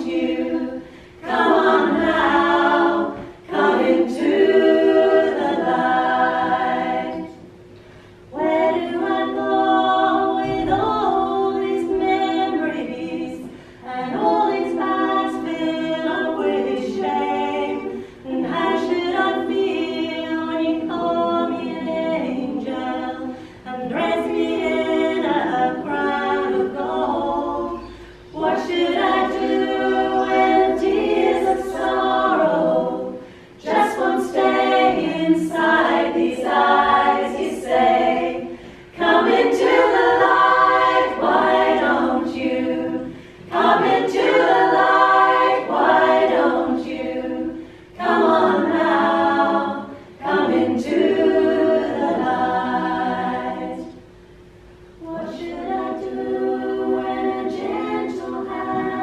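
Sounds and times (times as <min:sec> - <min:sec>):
women's choir singing a cappella: 0:00.0 - 0:59.0.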